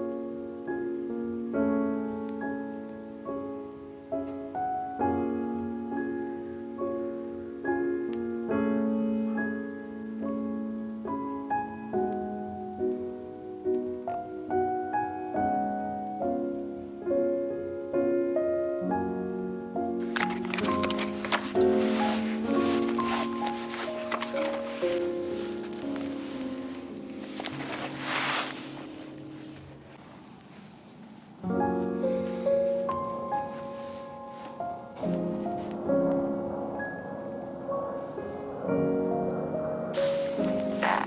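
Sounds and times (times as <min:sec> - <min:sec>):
gentle piano music: 0:00.0 - 0:41.0.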